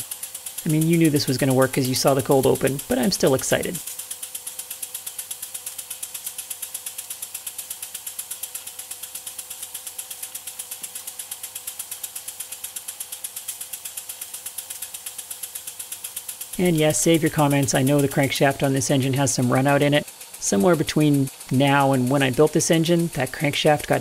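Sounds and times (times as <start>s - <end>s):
model steam engine clattering: 0.0s - 24.0s
thin steady tone: 0.0s - 24.0s.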